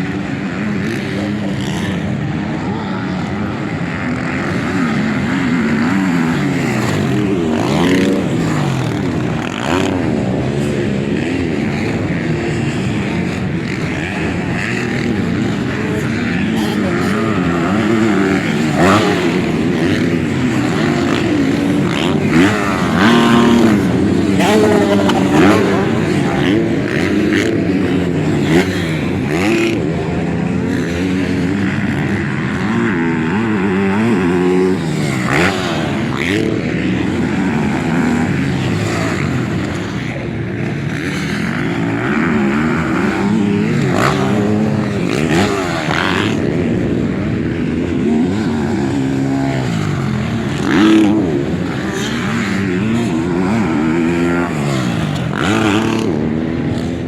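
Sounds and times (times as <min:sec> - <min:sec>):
motocross bikes racing: 0:00.0 - 0:57.0.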